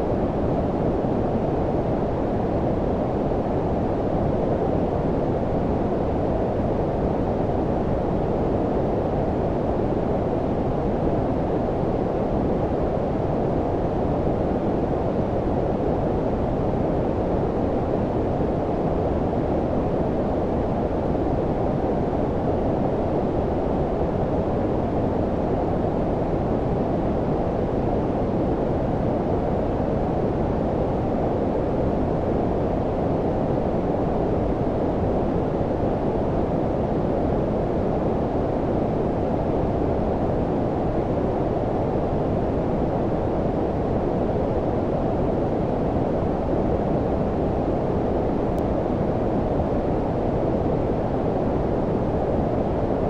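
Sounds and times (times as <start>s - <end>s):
low-pitched brown noise: 0.0s - 53.0s.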